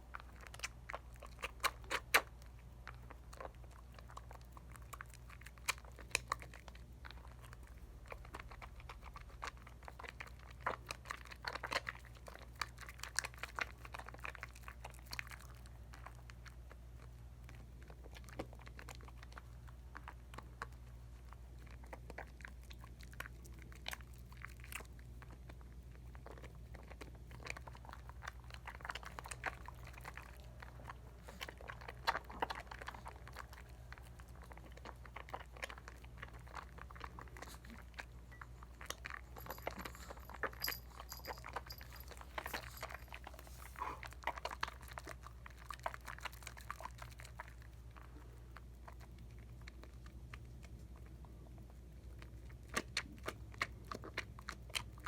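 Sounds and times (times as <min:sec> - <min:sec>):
soap lather squishing: 0:00.0 - 0:55.0.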